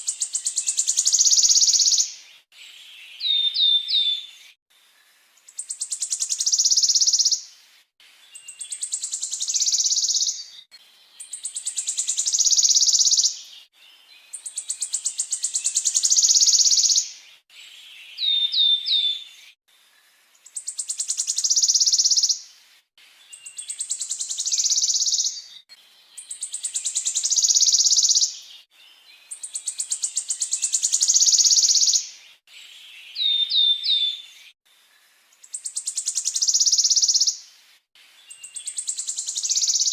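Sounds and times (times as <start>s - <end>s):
bird chirp: 0.0s - 39.9s.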